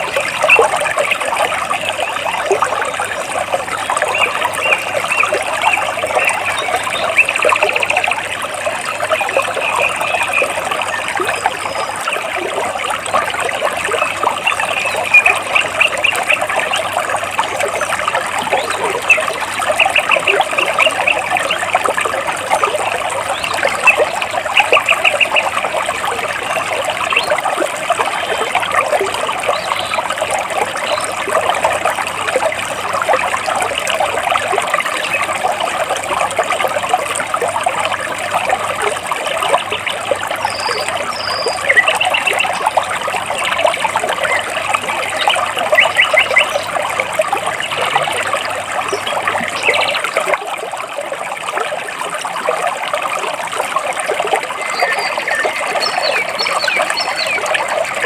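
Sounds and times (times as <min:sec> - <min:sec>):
water trickling among rocks: 0:00.0 - 0:58.0.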